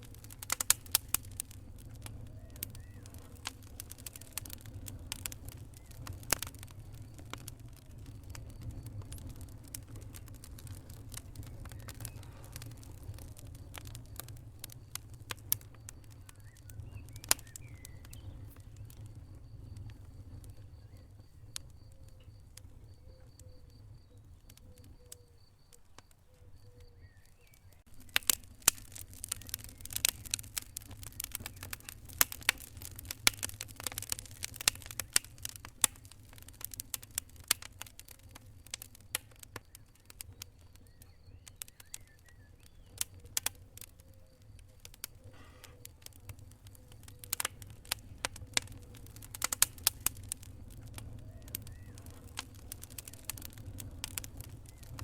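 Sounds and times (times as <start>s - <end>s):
burning logs crackling: 0.0s - 55.0s
low rumble of flames: 0.0s - 55.0s.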